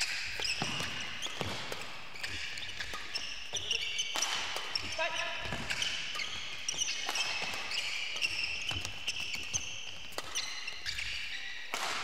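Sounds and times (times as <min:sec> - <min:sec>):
racket striking shuttlecock: 0:00.0 - 0:10.7, 0:11.7 - 0:12.0
shoes squeaking on court: 0:00.0 - 0:12.0.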